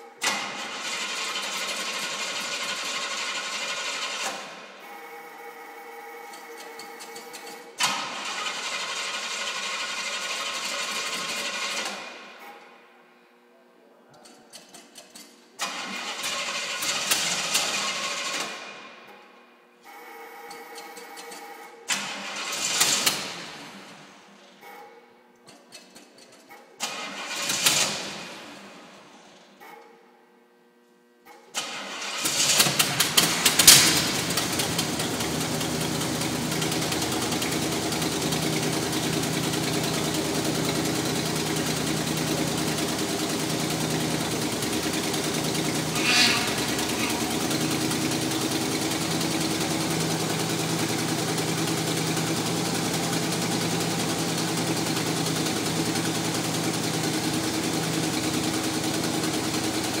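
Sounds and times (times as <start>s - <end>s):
car engine starting and idling: 0.0s - 5.2s, 5.8s - 12.9s, 14.6s - 19.3s, 20.1s - 29.6s, 31.3s - 60.0s.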